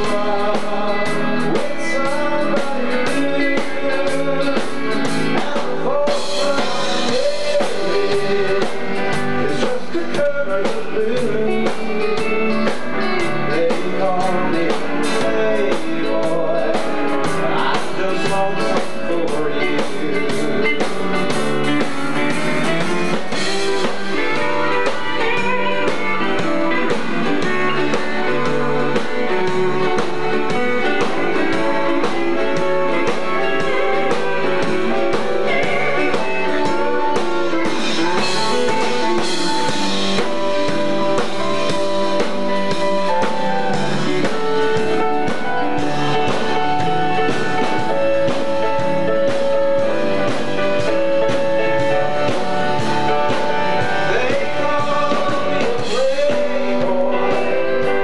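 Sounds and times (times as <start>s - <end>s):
live country band playing: 0.0s - 58.0s.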